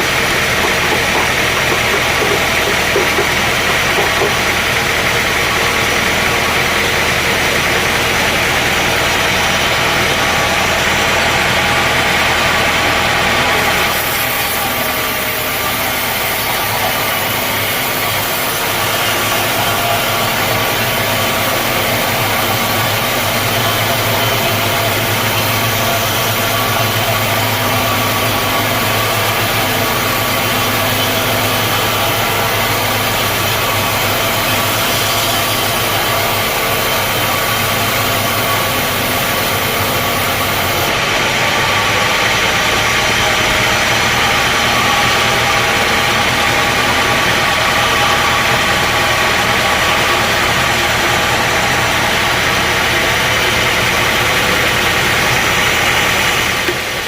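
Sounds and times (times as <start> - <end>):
sawmill machinery drone: 0.0 - 57.0
steady machine hum: 0.0 - 57.0.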